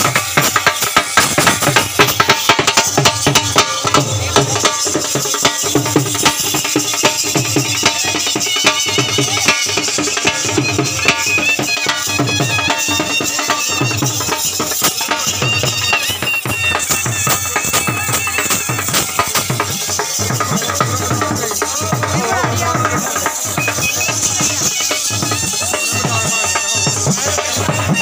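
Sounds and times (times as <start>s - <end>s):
folk dance music: 0.0s - 28.0s
steady drum beat: 0.0s - 28.0s
high melody line: 2.2s - 28.0s.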